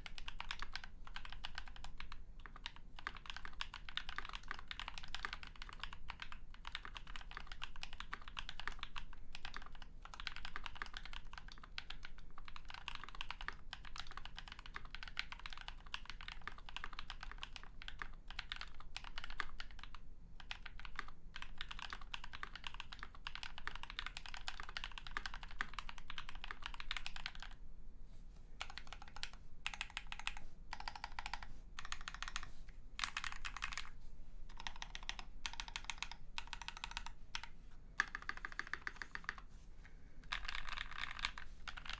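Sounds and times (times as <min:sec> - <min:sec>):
mechanical keyboard typing: 0:00.0 - 0:27.6, 0:28.6 - 0:33.9, 0:34.5 - 0:39.4, 0:40.3 - 0:41.9.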